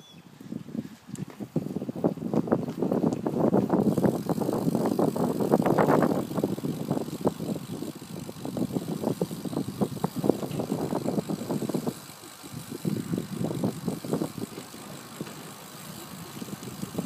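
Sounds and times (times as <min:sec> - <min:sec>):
bicycle rattling over asphalt: 0:00.3 - 0:17.0
road and wind rumble: 0:00.3 - 0:17.0.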